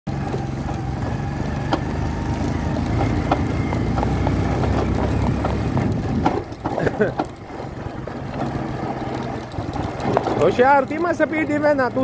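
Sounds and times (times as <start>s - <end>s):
horse hooves on dirt road: 0.1s - 12.0s
vehicle engine droning: 0.1s - 12.0s.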